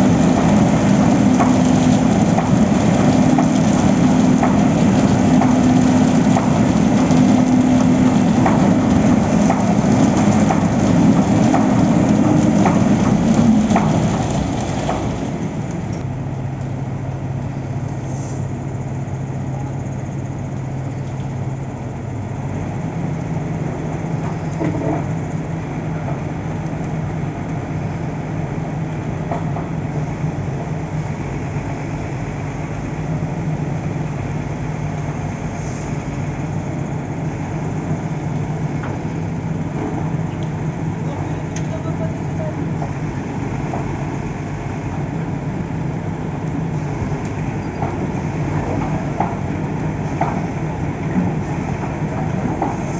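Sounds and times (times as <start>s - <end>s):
heavy machinery engine running: 0.0s - 52.9s.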